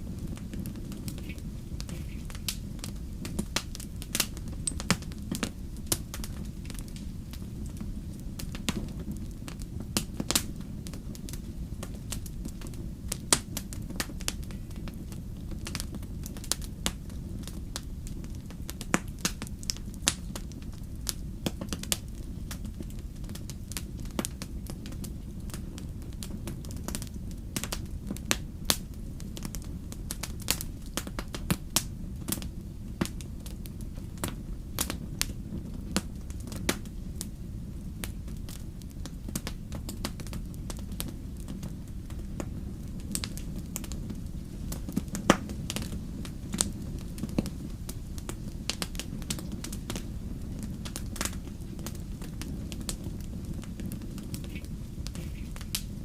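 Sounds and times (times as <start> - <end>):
fire pops and snaps: 0.0 - 56.0
low rumble of flames: 0.0 - 56.0.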